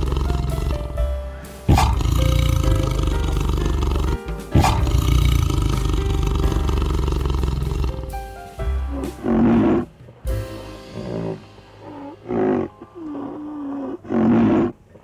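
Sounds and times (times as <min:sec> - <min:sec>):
tiger roaring: 0:00.0 - 0:01.0, 0:01.7 - 0:08.1, 0:08.9 - 0:09.9, 0:11.0 - 0:15.0
background music: 0:00.0 - 0:15.0.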